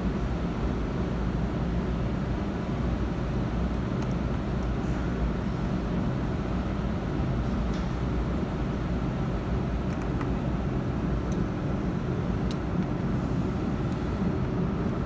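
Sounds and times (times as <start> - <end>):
workshop background rumble: 0.0 - 15.0.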